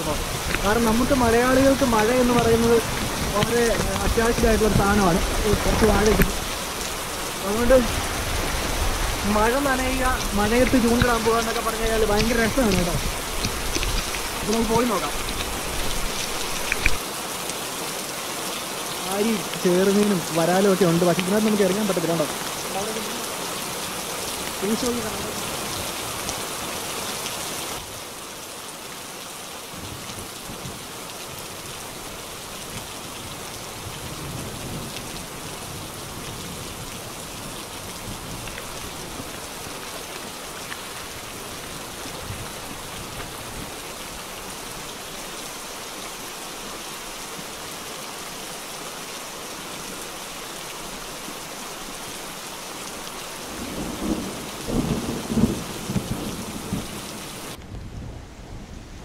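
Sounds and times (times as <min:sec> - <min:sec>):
heavy rain on water and grass: 0:00.0 - 0:59.0.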